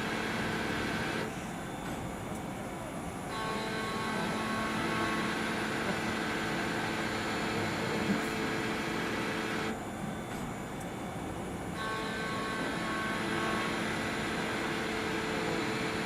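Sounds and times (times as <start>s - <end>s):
lathe mechanical whine: 0.0s - 16.0s.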